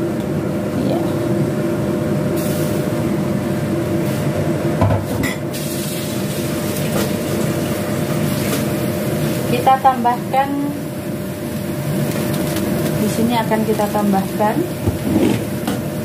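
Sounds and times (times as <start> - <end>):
stew boiling in a pot: 0.0 - 16.0.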